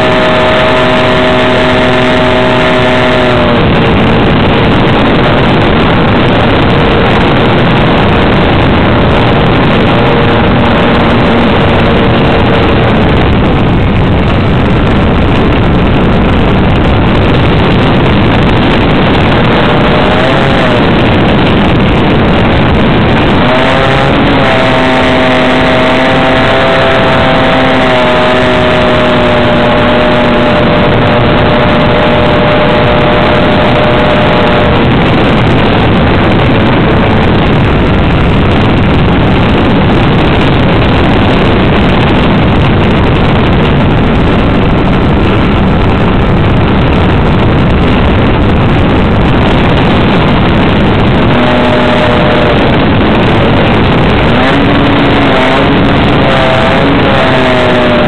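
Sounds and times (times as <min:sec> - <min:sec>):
model plane motor and propeller: 0:00.0 - 0:46.3, 0:50.9 - 0:58.0
wind rush on microphone: 0:00.0 - 0:58.0.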